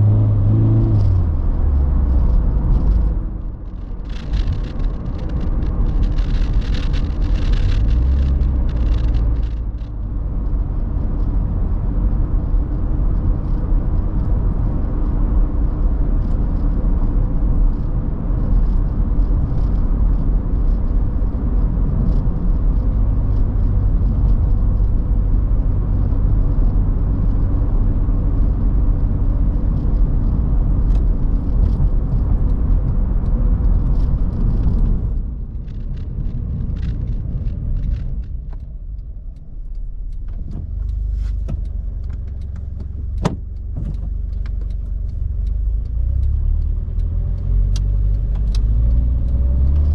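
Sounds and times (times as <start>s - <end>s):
car engine low rumble: 0.0s - 49.9s.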